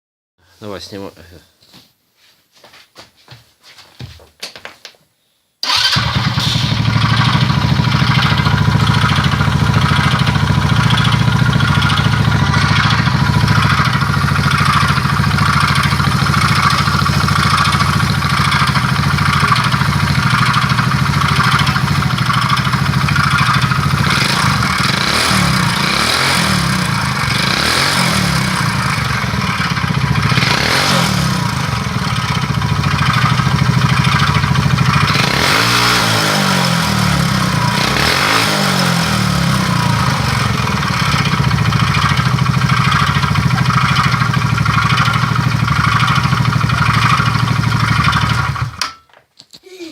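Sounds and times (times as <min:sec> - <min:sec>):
engine running: 0:05.6 - 0:48.8.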